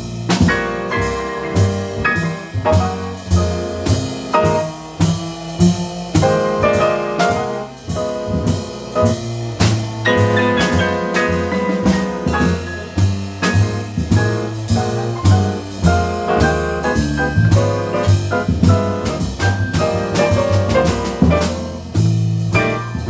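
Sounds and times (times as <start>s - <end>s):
drum kit and cymbals: 0.0s - 23.0s
grand piano chords: 0.0s - 23.0s
upright bass: 0.0s - 23.0s.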